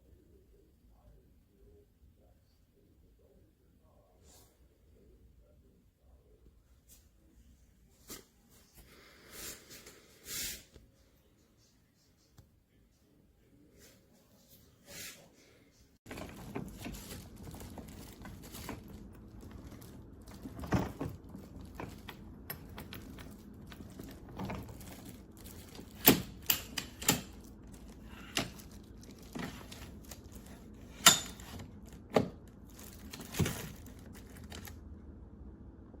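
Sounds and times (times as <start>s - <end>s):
low steady background noise: 0.0s - 36.0s.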